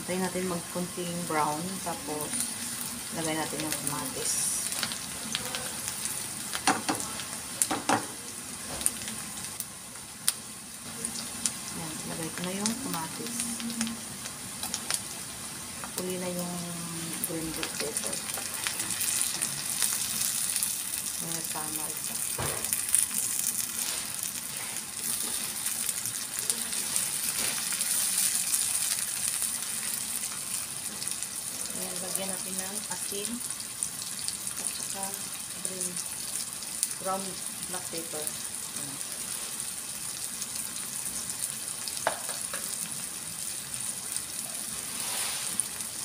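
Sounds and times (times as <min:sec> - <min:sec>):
onions sizzling in a frying pan: 0:00.0 - 0:46.0.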